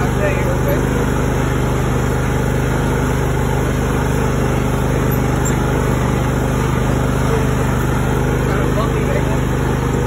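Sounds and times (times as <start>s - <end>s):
riding mower engine droning: 0.0s - 10.0s.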